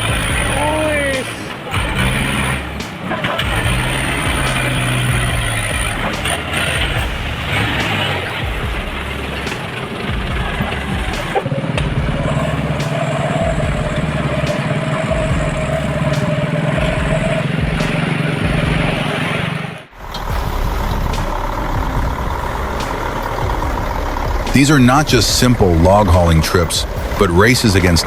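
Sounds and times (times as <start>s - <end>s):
heavy vehicle engine running: 0.0s - 28.0s
loud road noise: 0.0s - 28.0s.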